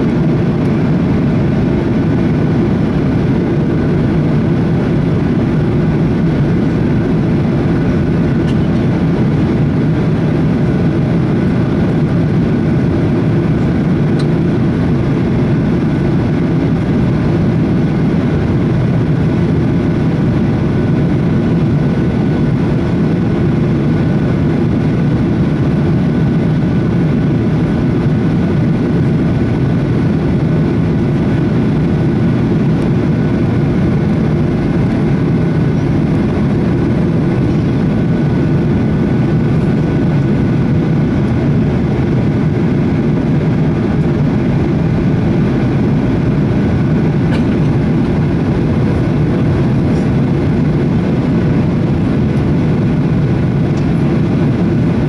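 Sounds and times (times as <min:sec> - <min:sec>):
airplane cabin rumble: 0:00.0 - 0:55.0
faint steady whine: 0:00.0 - 0:55.0.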